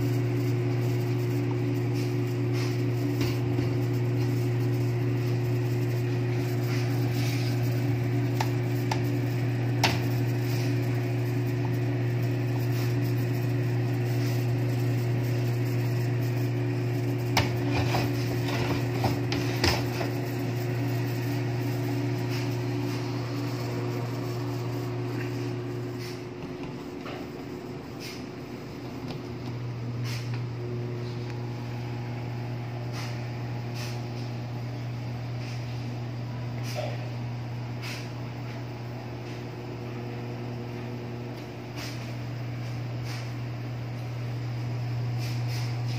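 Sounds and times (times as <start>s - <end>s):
fan humming: 0.0s - 45.9s.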